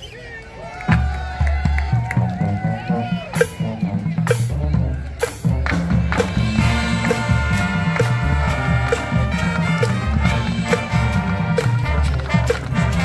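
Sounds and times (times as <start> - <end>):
marching band playing: 0.9 - 13.0.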